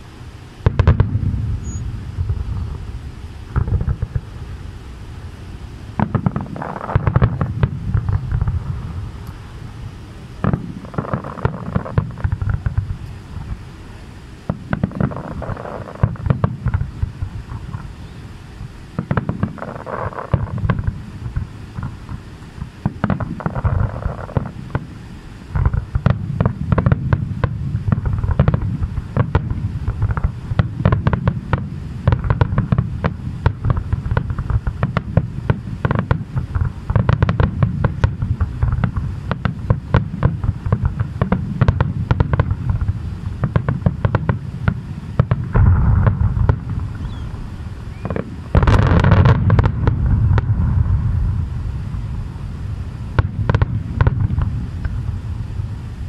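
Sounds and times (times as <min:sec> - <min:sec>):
fireworks bangs and crackles: 0:00.0 - 0:56.0
deep rumble: 0:00.6 - 0:18.9, 0:25.6 - 0:56.0.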